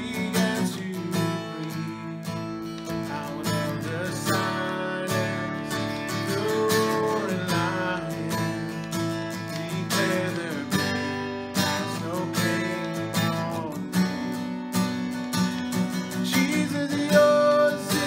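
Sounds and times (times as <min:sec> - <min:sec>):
strummed acoustic guitar chords: 0:00.0 - 0:18.0.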